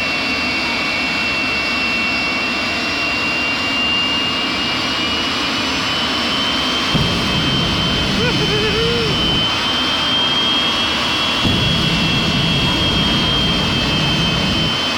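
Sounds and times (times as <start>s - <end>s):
jet engine roaring: 0.0s - 14.9s.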